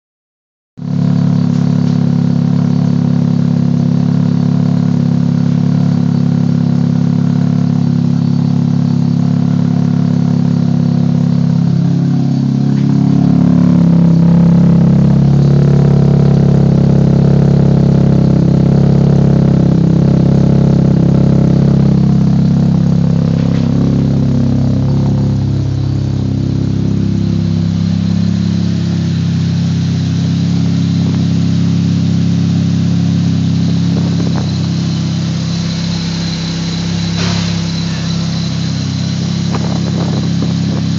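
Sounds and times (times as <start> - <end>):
vehicle engine deep idle: 0.8 - 40.9.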